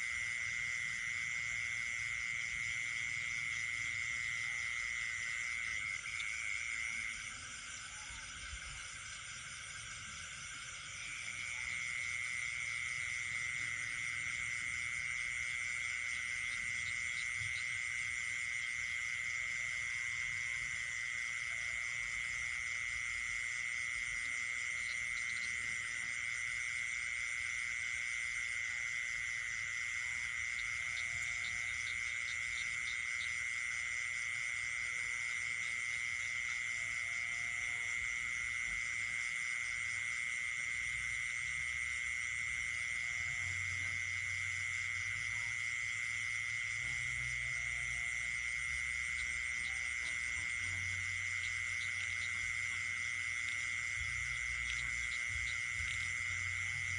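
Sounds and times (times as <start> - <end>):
frogs trilling: 0.0 - 56.9.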